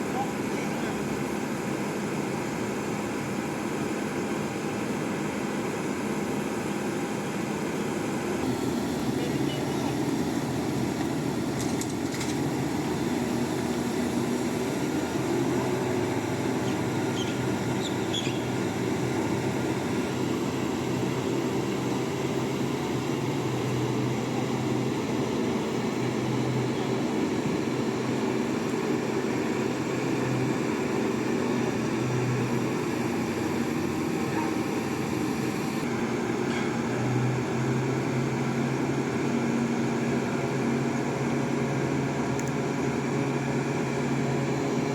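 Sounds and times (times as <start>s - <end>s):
diesel crane engine running: 0.0s - 44.9s.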